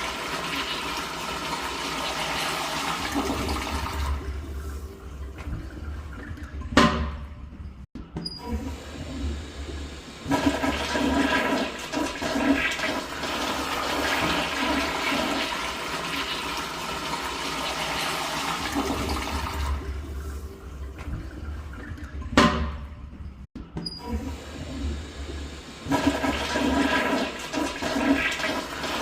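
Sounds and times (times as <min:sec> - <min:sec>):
toilet flushing: 0:00.0 - 0:07.4, 0:08.4 - 0:23.0, 0:23.9 - 0:29.0.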